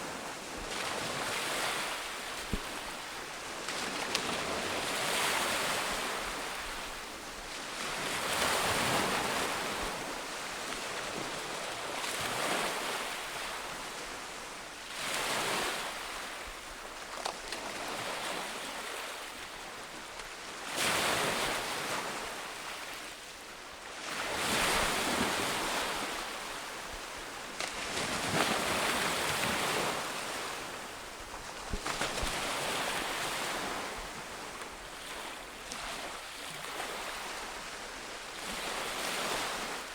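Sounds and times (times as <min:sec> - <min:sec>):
ocean waves breaking on beach: 0:00.0 - 0:16.8, 0:23.9 - 0:39.9.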